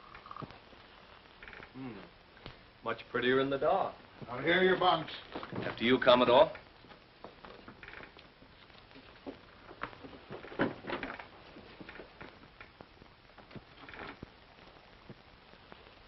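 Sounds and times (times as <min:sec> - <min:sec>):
film soundtrack hiss: 0:00.0 - 0:16.0
soft hissing rustles: 0:00.0 - 0:16.0.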